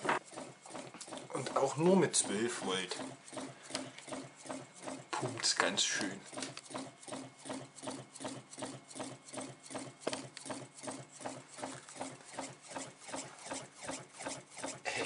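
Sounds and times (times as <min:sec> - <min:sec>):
solenoid engine piston knocking: 0:00.0 - 0:15.0.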